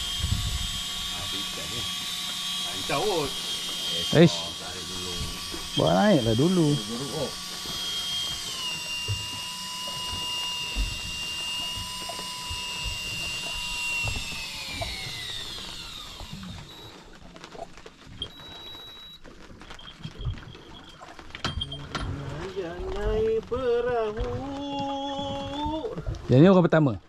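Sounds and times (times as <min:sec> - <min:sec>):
electric fishing reel whining: 0:00.0 - 0:26.0.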